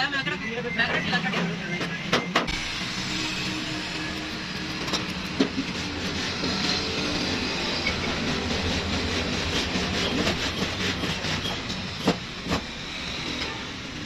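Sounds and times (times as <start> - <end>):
machinery humming: 0.1 - 14.0.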